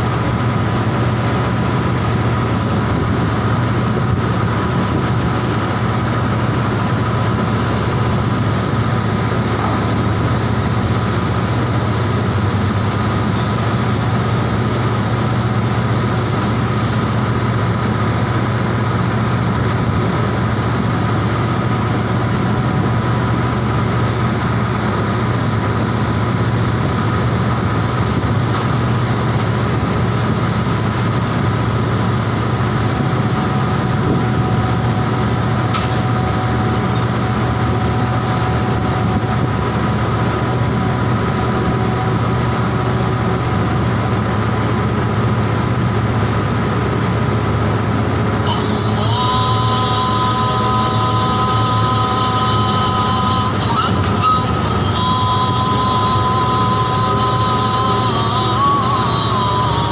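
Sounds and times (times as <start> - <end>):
loud low engine drone: 0.0 - 59.9
thin whining machinery tones: 0.0 - 59.9.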